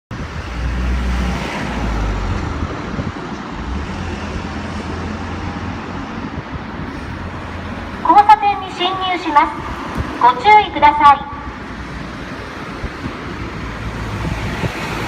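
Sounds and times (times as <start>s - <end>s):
road traffic noise: 0.1s - 15.0s
vehicle engine rumbling: 0.1s - 15.0s.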